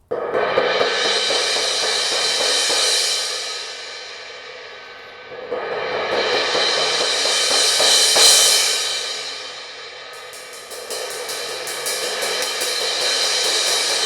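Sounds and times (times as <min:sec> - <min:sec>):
crash cymbal struck with drumstick: 0:00.1 - 0:14.0.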